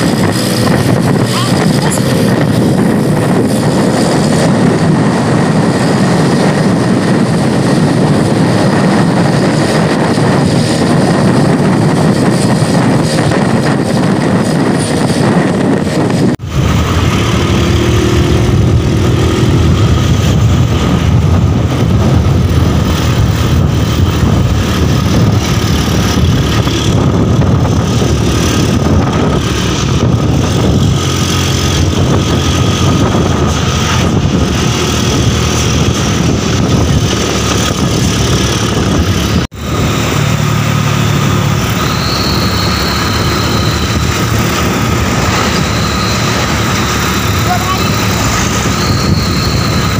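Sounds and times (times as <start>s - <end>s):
steady high whine: 0.0s - 49.9s
truck engine and exhaust running: 0.0s - 49.9s.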